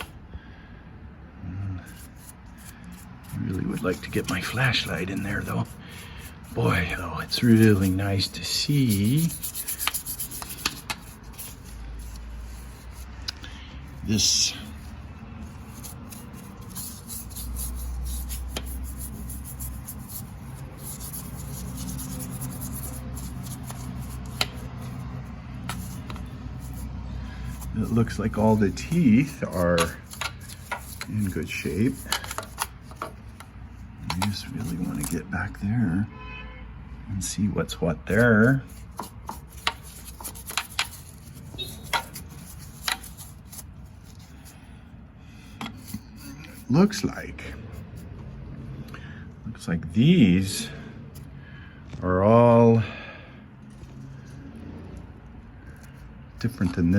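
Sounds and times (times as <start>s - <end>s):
rubbing and handling noise: 1.9s - 35.6s, 37.9s - 48.3s, 53.6s - 56.9s.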